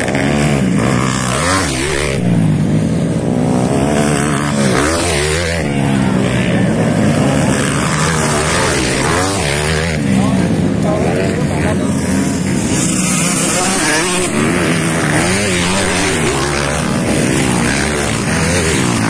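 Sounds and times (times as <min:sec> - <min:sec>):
motocross bikes revving past: 0:00.0 - 0:19.0.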